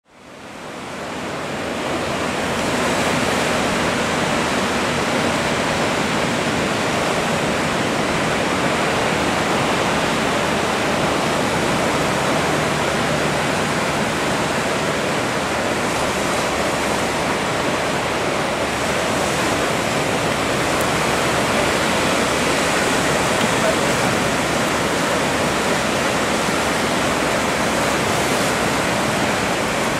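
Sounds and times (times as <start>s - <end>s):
small waves breaking: 0.1s - 29.9s.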